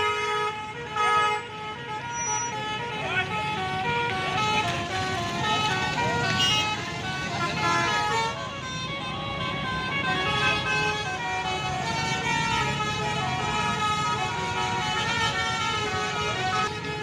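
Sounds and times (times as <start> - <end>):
bus musical horn playing a tune: 0.0 - 17.0.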